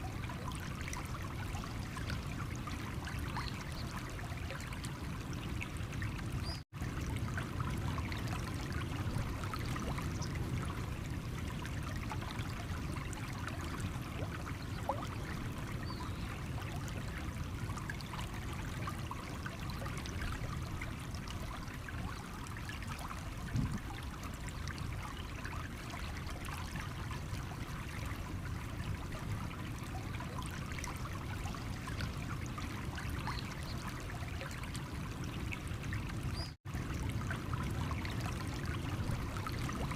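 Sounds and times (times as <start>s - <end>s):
stream water over stones: 0.0s - 39.9s.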